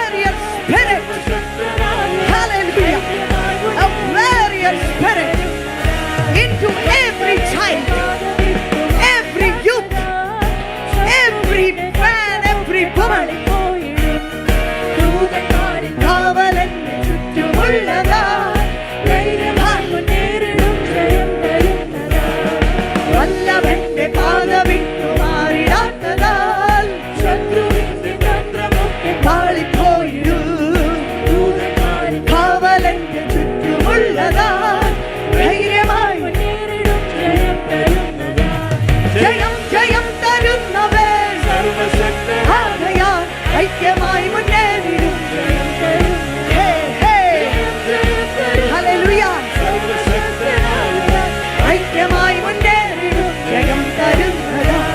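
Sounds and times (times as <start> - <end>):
worship song singing: 0.0 - 54.9.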